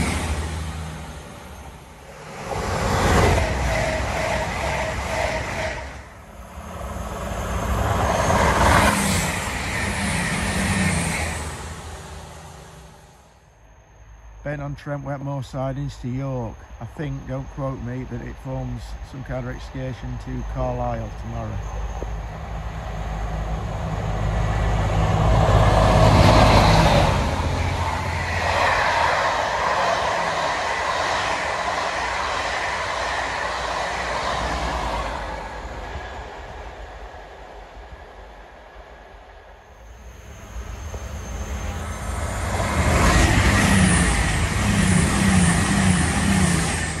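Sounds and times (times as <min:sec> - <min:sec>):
wheels rushing on rail: 0:00.0 - 0:14.2, 0:16.5 - 0:47.0
diesel locomotive engine drone: 0:00.0 - 0:47.0
train passing at speed: 0:00.0 - 0:47.0.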